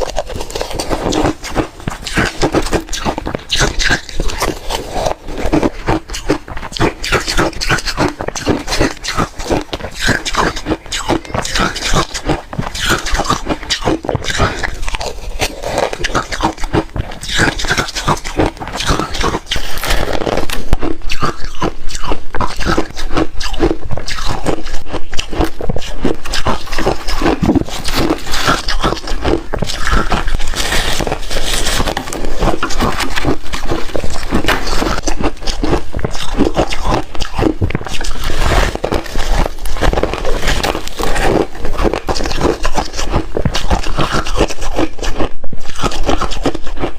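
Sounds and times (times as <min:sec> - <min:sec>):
ice crunching while chewed: 0:00.0 - 0:46.9.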